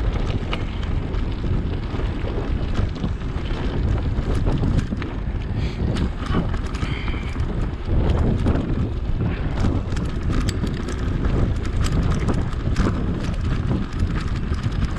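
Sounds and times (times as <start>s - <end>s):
bike rattling clicks and knocks: 0.0s - 14.9s
wind buffeting microphone: 0.0s - 14.9s.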